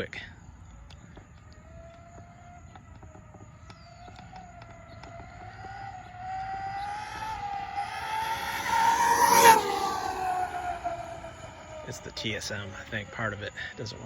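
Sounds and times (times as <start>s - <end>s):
rc truck motor whine: 0.5s - 14.0s.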